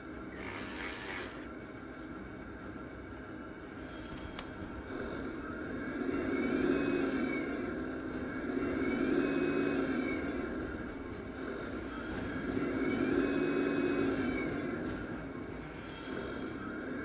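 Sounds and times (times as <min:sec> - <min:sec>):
simulated tank engine sound: 0:00.0 - 0:17.0.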